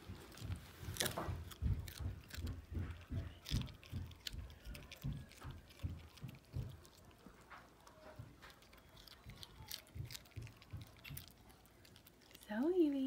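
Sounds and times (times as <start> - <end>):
dog crunching a carrot: 0.0 - 13.0.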